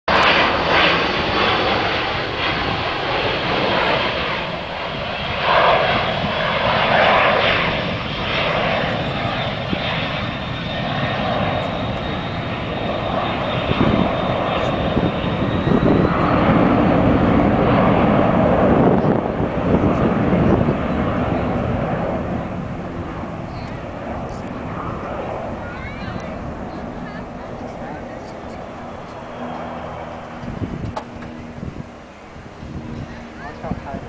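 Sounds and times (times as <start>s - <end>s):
high jet whine: 0.1s - 34.0s
jet engine rush: 0.1s - 34.0s.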